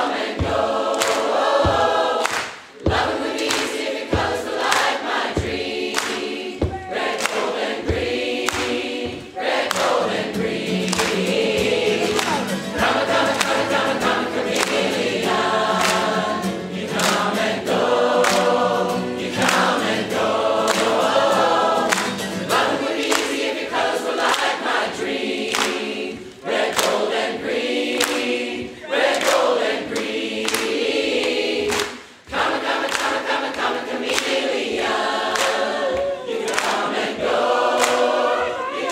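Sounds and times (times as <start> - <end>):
crowd choir singing: 0.0 - 38.9
hand clapping: 0.4 - 24.8, 25.4 - 38.9.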